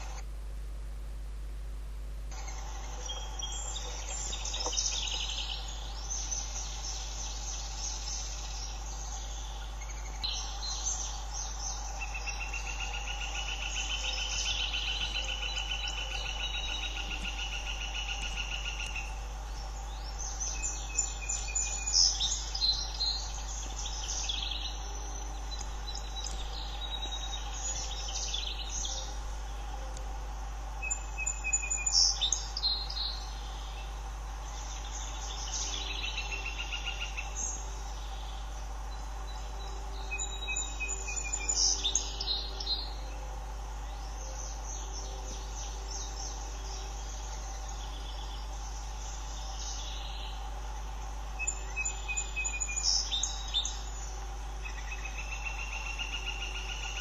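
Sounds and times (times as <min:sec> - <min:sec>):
small birds chirping: 0:00.0 - 0:00.3, 0:02.2 - 0:57.0
constant low hum: 0:00.0 - 0:57.0
pulsed buzz: 0:00.0 - 0:57.0.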